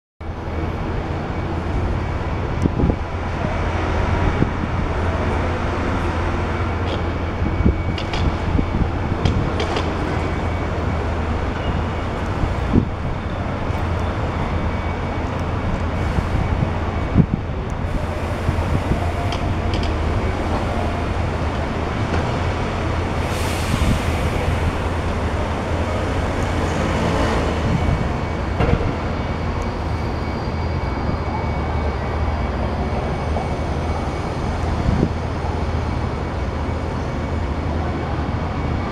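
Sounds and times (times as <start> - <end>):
rushing noise: 0.2 - 38.9.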